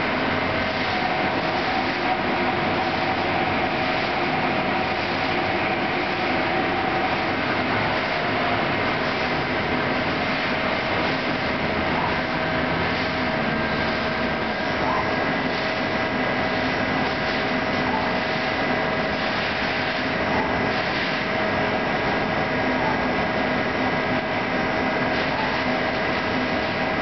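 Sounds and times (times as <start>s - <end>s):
coolant spray hissing: 0.0s - 27.0s.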